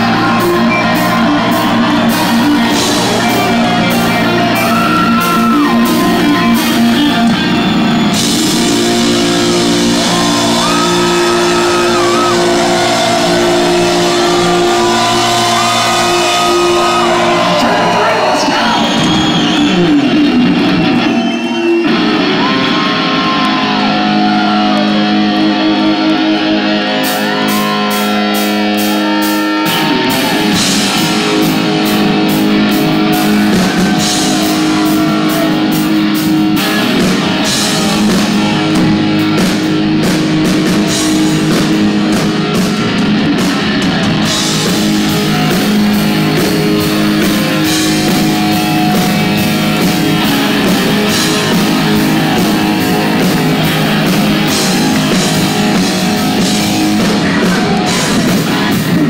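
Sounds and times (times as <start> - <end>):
electric guitar with bent notes: 0.0 - 59.0
live rock band playing: 0.0 - 59.0.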